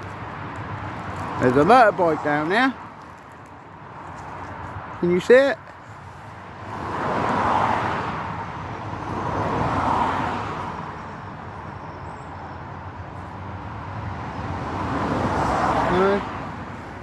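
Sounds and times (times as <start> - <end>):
steady traffic hum: 0.0 - 17.0
vehicles passing: 0.0 - 17.0.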